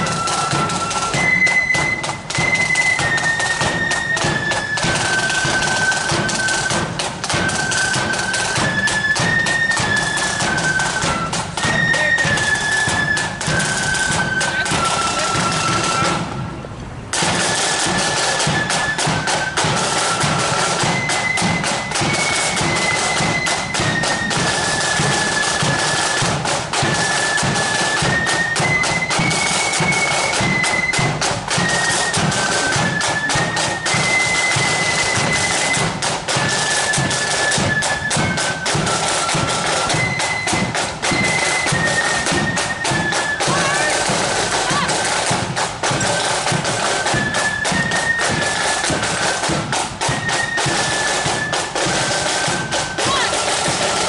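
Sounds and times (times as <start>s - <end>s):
snare and bass drums beat: 0.0s - 16.4s, 17.1s - 54.0s
flutes playing high melody: 0.0s - 54.0s.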